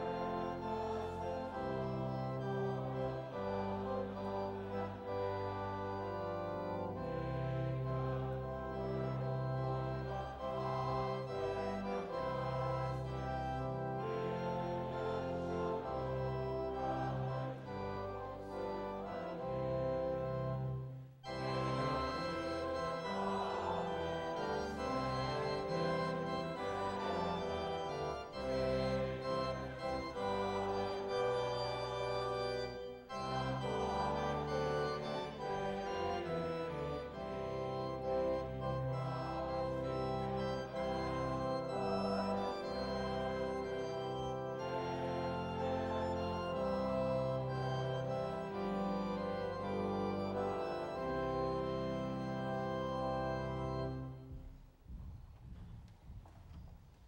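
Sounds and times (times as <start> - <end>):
organ playing chords: 0.0 - 54.6.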